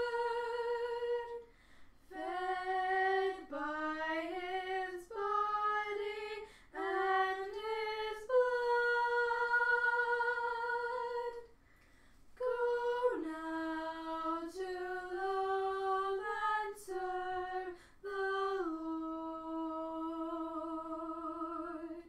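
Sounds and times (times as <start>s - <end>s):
woman singing a hymn: 0.0s - 11.5s, 12.4s - 22.0s.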